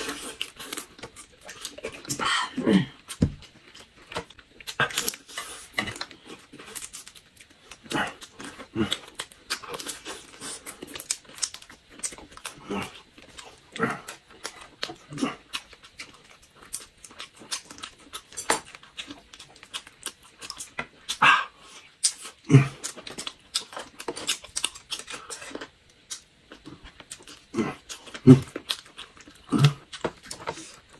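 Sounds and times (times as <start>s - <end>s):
people chewing and lip-smacking: 0.0s - 30.9s.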